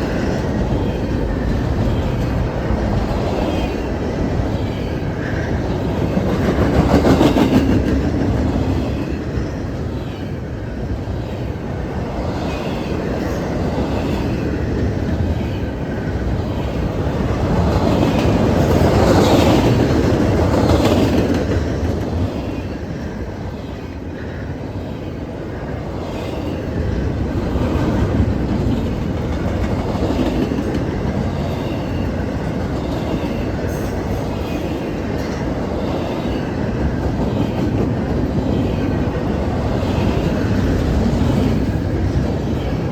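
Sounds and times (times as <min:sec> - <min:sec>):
freight train rumble: 0:00.0 - 0:42.9
train wheels clacking on rails: 0:00.0 - 0:42.9.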